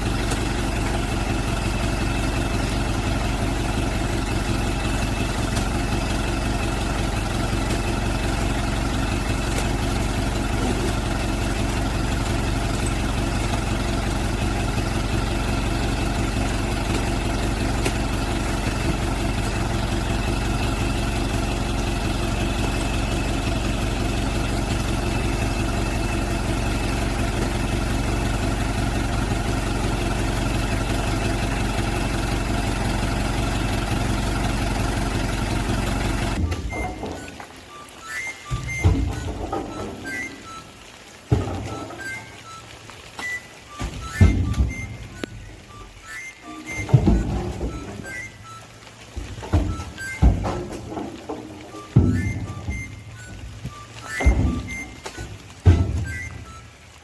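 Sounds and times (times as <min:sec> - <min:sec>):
truck engine running steadily: 0:00.0 - 0:57.0.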